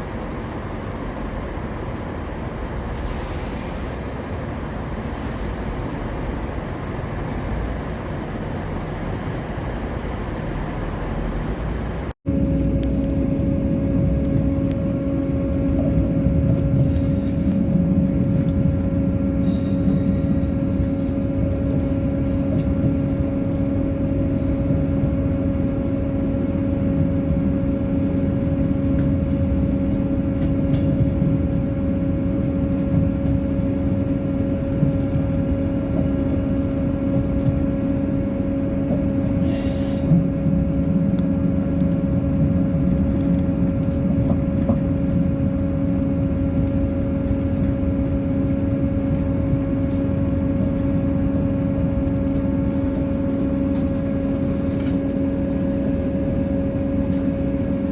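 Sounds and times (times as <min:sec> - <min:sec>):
train running: 0:00.0 - 0:57.9
wheel rumble: 0:03.4 - 0:57.9.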